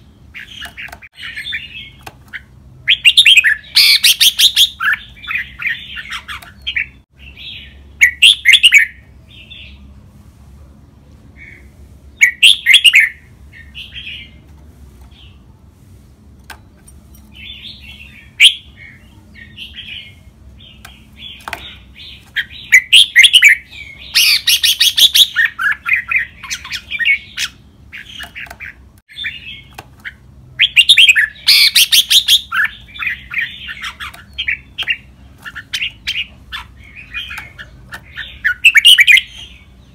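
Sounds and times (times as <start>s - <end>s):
bird singing: 0.0s - 9.9s, 11.4s - 14.4s, 16.5s - 39.9s
bird chirping: 0.0s - 10.0s, 11.3s - 15.6s, 16.4s - 39.9s.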